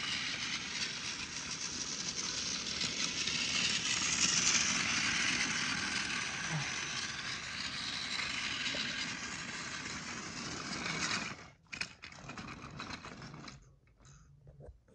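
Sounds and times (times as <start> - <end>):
wheels rattling on plastic track: 0.0 - 13.7
toy train motor whirring: 0.0 - 13.8.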